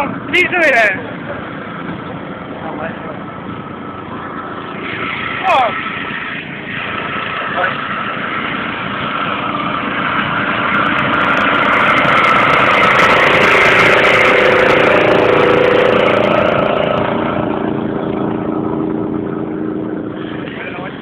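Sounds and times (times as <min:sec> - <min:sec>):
lawn mower engine running: 0:00.9 - 0:21.0.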